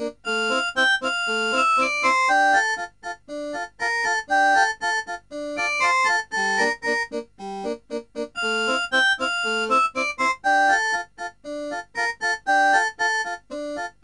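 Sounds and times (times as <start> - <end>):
upbeat instrumental keyboard tune: 0.0 - 14.0.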